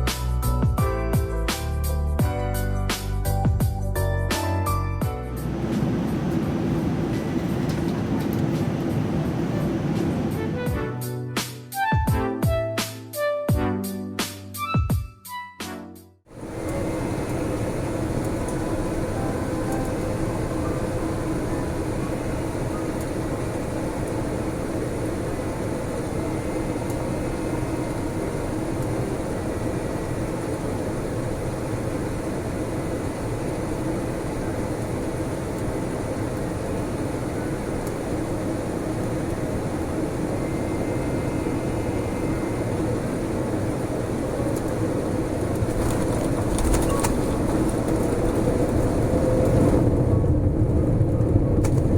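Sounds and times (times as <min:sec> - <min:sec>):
airliner cabin engine rush: 0:05.1 - 0:11.5, 0:16.3 - 0:51.9.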